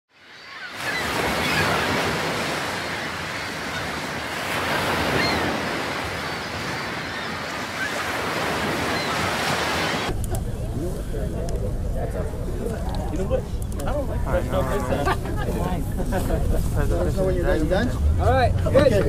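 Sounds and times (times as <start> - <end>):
ocean surf breaking: 0.3 - 19.0.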